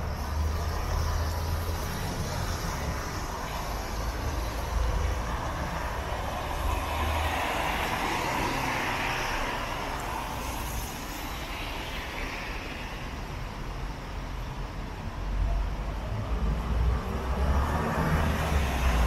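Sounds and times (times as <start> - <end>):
low rumble of engines: 0.0 - 19.0
tyres hissing on wet road: 0.0 - 19.0.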